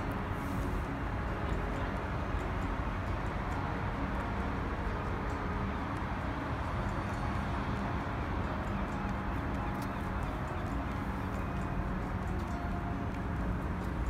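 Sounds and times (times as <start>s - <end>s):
faint ticks: 0.0s - 14.0s
low urban rumble and hiss: 0.0s - 14.0s.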